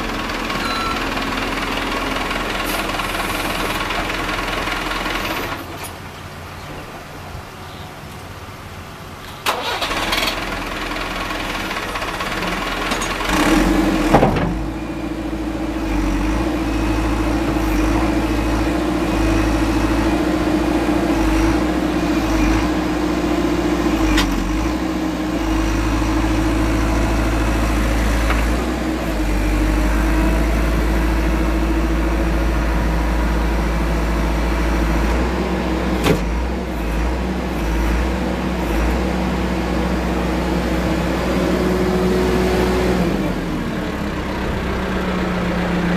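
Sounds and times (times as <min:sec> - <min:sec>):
diesel engine starting and idling: 0:00.0 - 0:45.9.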